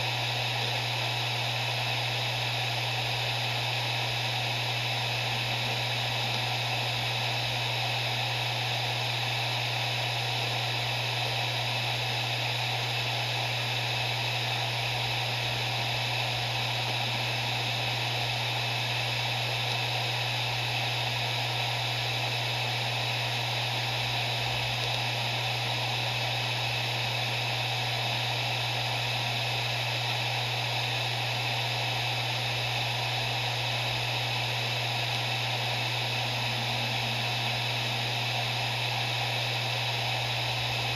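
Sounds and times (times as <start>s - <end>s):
hard drive spinning: 0.0s - 40.9s.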